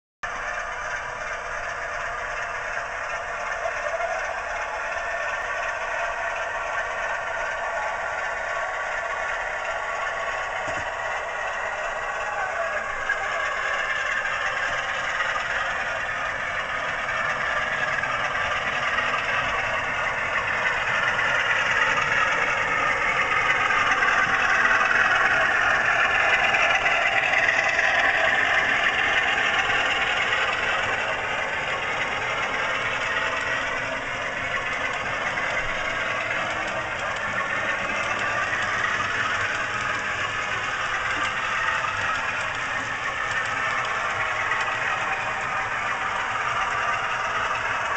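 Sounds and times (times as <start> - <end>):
diesel locomotive engine from small speaker: 0.2 - 47.9.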